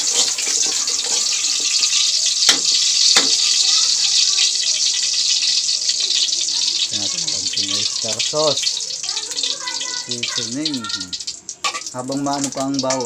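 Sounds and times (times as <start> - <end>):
oil sizzling in a wok: 0.0 - 13.0.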